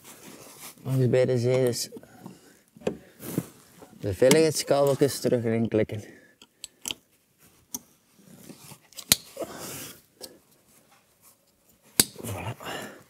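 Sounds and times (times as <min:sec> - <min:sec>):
soft rustling of handling: 0:00.0 - 0:06.0, 0:07.0 - 0:12.6.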